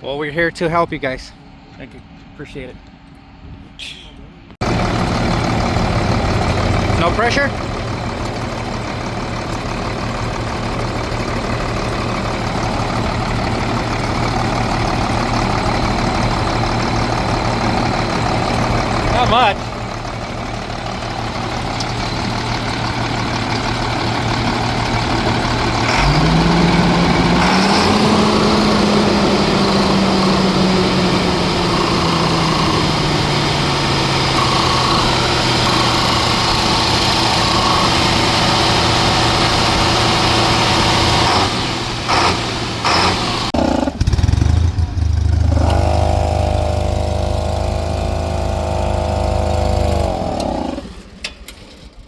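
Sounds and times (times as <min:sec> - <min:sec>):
heavy truck engine running: 0:01.0 - 0:52.0
steady engine note: 0:03.8 - 0:51.3.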